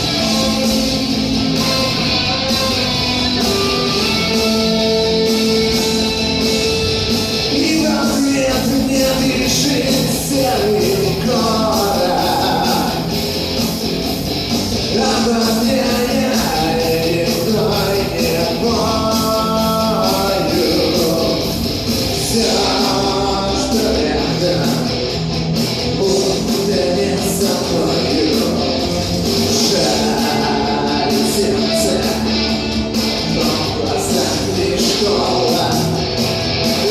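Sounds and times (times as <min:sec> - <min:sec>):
bass guitar: 0:00.0 - 0:36.9
distorted electric guitars: 0:00.0 - 0:36.9
drums: 0:00.0 - 0:36.9.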